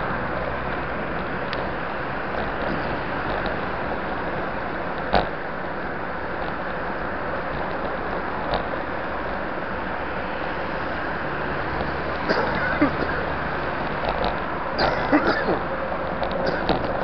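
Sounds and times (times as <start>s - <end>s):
wind and road noise from bicycle: 0.0s - 17.0s.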